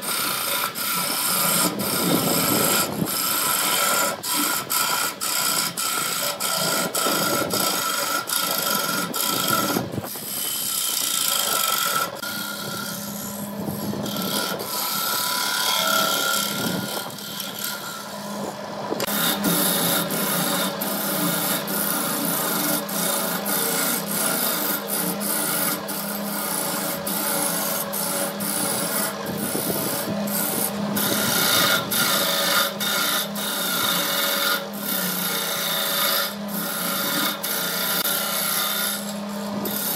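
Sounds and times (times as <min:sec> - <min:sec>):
turning tool scraping wood: 0:00.0 - 0:39.9
wood lathe humming: 0:00.0 - 0:39.9.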